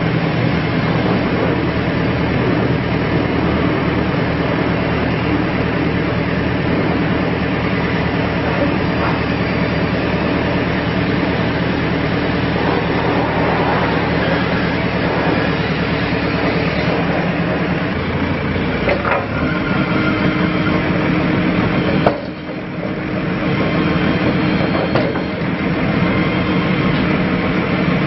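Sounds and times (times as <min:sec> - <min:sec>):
diesel engine running: 0:00.0 - 0:28.0
hydraulic mast raising and lowering: 0:00.0 - 0:28.0.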